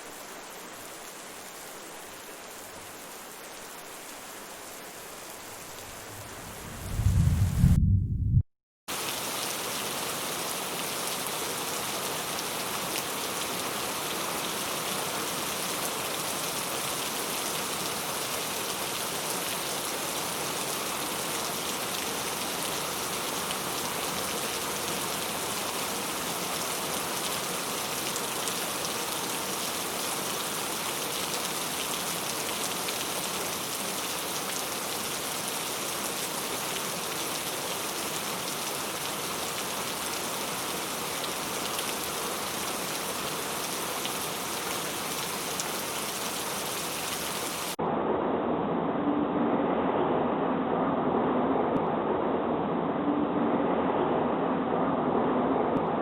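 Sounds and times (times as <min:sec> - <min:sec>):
rain falling: 0:00.0 - 0:07.8, 0:08.9 - 0:47.8.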